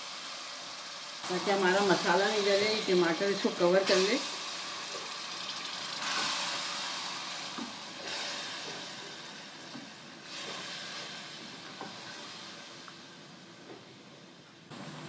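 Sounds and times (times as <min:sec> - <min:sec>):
sauce sizzling in hot oil: 0:00.0 - 0:13.6.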